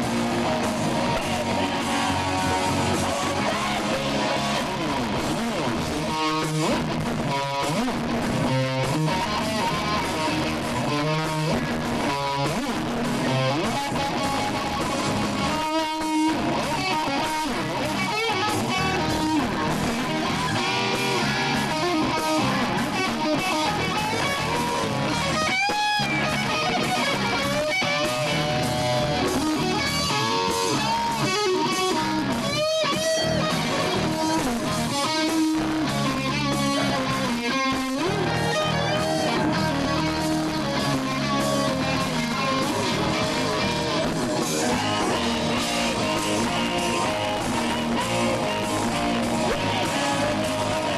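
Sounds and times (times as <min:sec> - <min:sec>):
bass guitar: 0:00.0 - 0:50.9
electric guitar with bent notes: 0:00.0 - 0:50.9.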